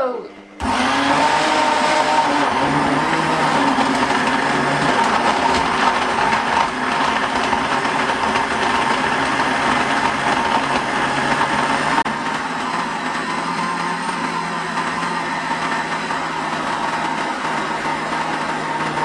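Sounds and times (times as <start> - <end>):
blender motor whining: 0.0 - 19.0.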